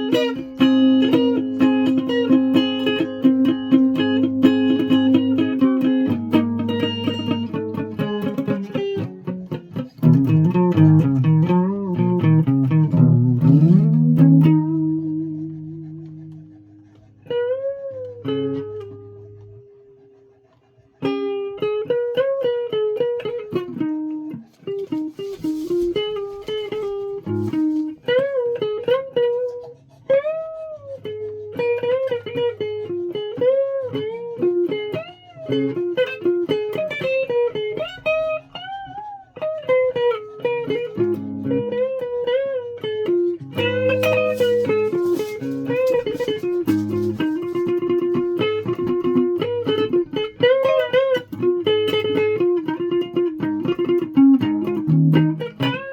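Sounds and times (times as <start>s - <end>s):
guitar melody with bent notes: 0.0s - 55.9s.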